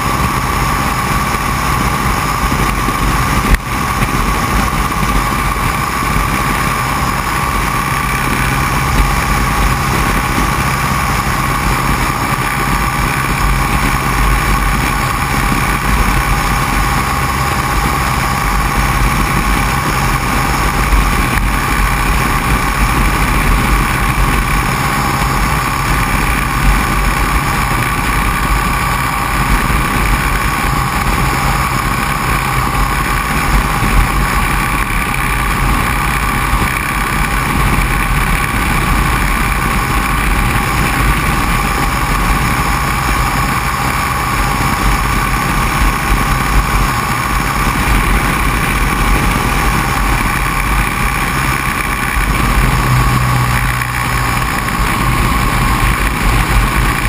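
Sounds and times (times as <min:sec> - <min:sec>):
engine and propeller drone: 0:00.0 - 0:57.0
wind rushing over aircraft: 0:00.0 - 0:57.0.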